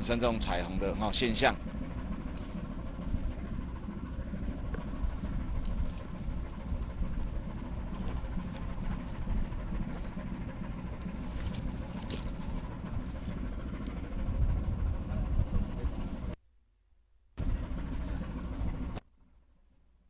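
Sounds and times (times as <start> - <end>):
ship engine rumbling: 0.0 - 16.4, 17.4 - 19.0.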